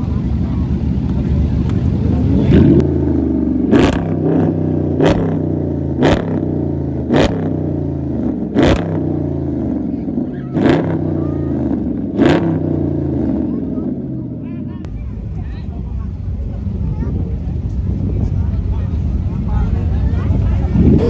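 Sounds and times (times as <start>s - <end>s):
sports car engine revving: 0.0s - 14.5s, 17.5s - 21.0s.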